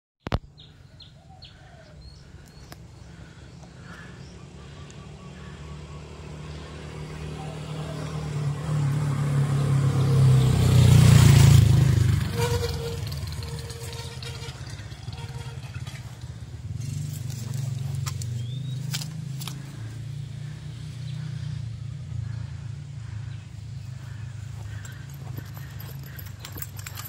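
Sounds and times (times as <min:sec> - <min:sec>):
motorcycle passing by: 0:00.6 - 0:27.0.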